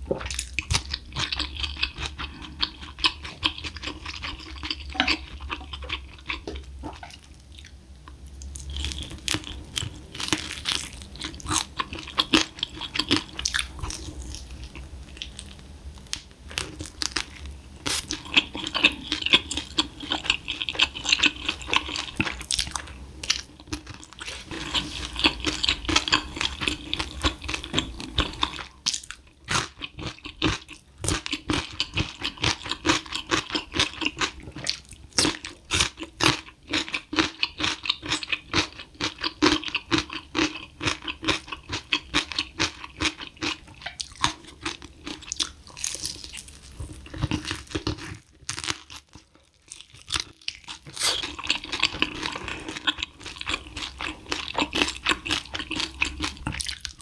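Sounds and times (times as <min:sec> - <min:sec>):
wet crunchy chewing: 0:08.4 - 0:57.0.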